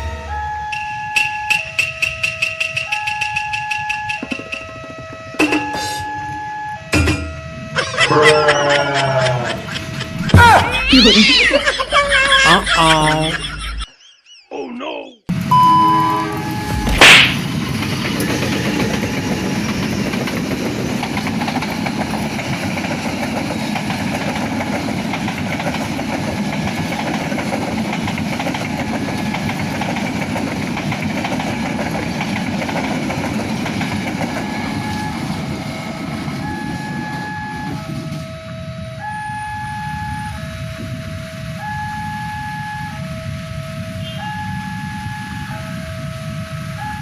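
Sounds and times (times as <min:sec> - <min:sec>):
train wheels rumbling on rails: 0:00.0 - 0:08.0, 0:08.6 - 0:12.4, 0:15.3 - 0:47.0.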